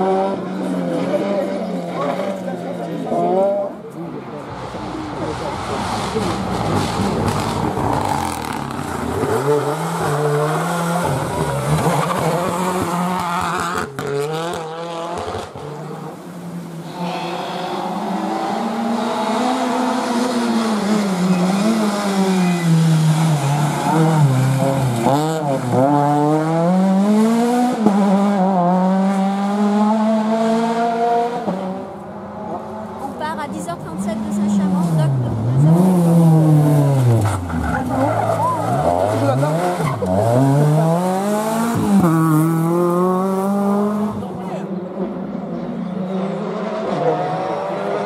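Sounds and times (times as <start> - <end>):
rally car engines at full throttle: 0.0 - 48.0.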